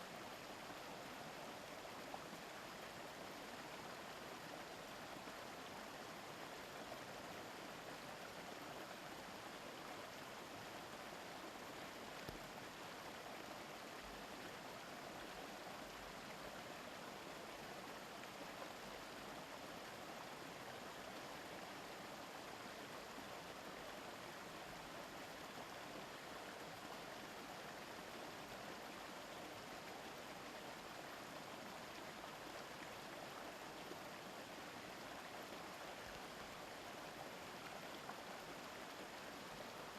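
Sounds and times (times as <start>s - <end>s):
stream murmuring over rocks: 0.0s - 39.9s.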